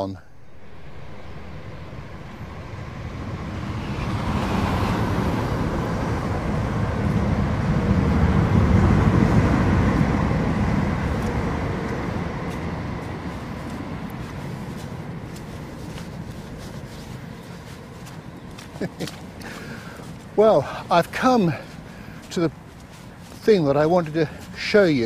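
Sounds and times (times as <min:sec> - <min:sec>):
train passing with whine: 0:00.0 - 0:25.0.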